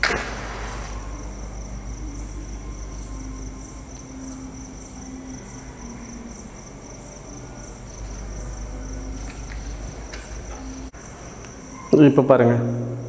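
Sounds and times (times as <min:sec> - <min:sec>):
cricket chirping: 0:00.0 - 0:13.0
faint high whine: 0:00.0 - 0:13.0.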